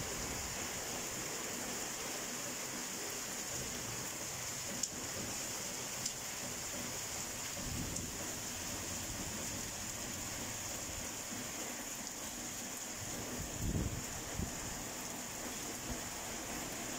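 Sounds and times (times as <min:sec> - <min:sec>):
heavy rain on foliage: 0:00.0 - 0:16.9.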